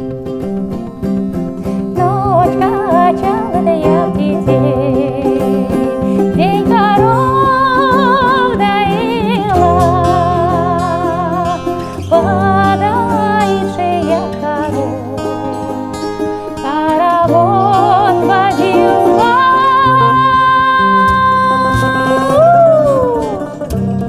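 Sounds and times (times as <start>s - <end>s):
acoustic guitar: 0.0s - 24.0s
plucked bouzouki: 0.0s - 24.0s
woman singing with vibrato: 1.9s - 24.0s.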